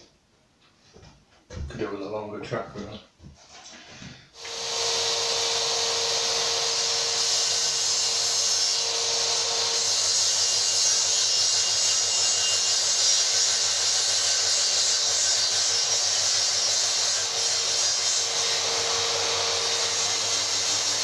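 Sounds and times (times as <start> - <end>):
plunge saw cutting worktop: 3.4 - 21.0.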